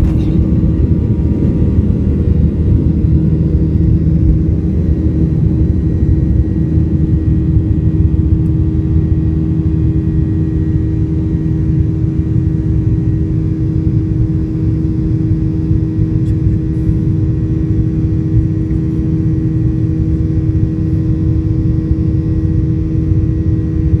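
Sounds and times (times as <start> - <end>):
jet engines roaring in cabin: 0.0 - 24.0.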